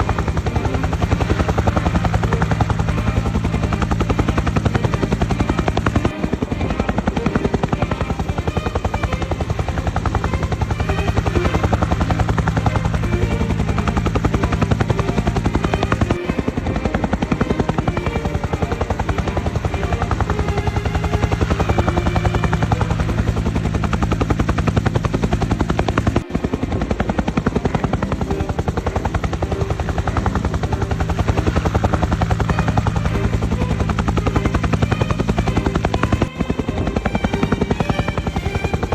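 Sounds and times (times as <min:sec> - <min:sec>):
helicopter rotor beating: 0:00.0 - 0:38.9
low engine drone: 0:00.0 - 0:38.9.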